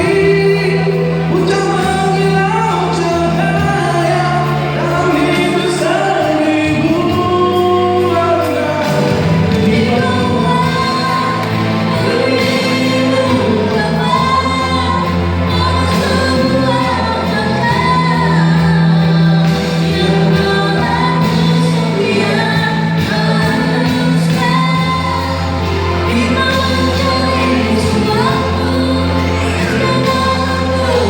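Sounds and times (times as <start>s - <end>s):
instrumental accompaniment: 0.0s - 31.0s
woman singing: 0.0s - 31.0s.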